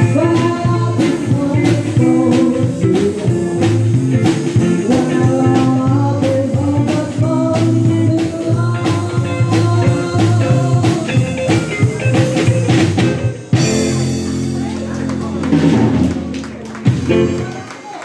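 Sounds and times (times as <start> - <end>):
steady drum beat: 0.0 - 17.5
live band playing upbeat music: 0.0 - 18.0.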